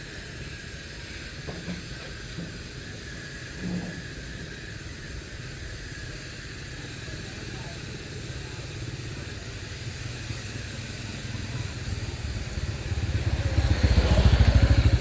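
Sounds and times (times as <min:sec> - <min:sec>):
steady hissing noise: 0:00.0 - 0:15.0.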